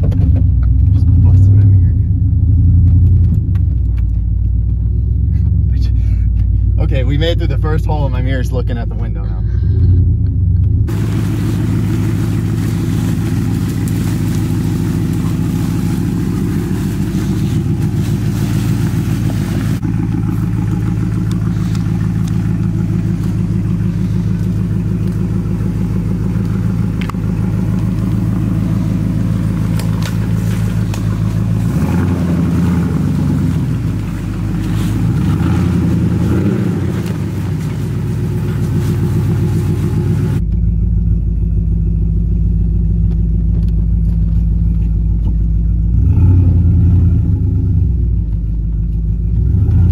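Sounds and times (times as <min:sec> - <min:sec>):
truck engine running and revving: 0:00.0 - 0:49.9.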